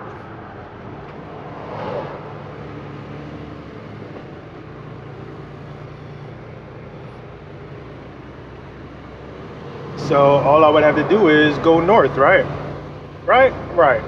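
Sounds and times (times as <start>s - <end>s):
truck engine drone: 0.0s - 14.0s
tyre and road noise: 0.0s - 14.0s.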